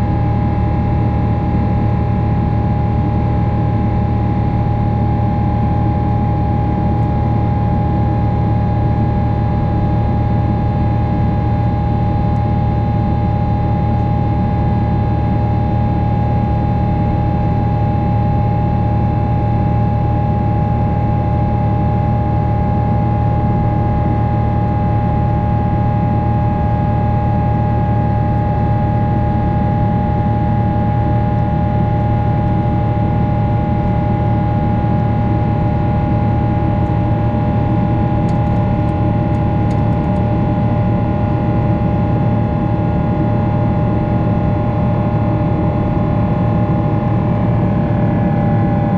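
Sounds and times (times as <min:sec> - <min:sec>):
jet engine drone in cabin: 0:00.0 - 0:48.9.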